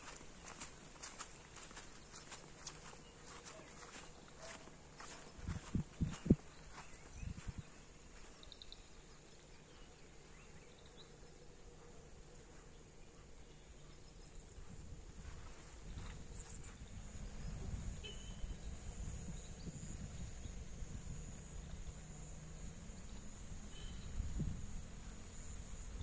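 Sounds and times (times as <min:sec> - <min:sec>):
insect chorus drone: 0:00.0 - 0:26.0
faint chirps: 0:01.7 - 0:14.7, 0:15.3 - 0:20.7, 0:21.6 - 0:26.0.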